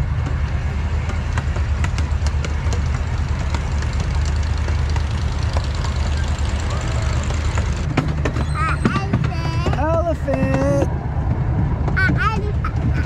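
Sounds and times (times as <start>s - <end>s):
miniature train rumbling: 0.0s - 13.0s.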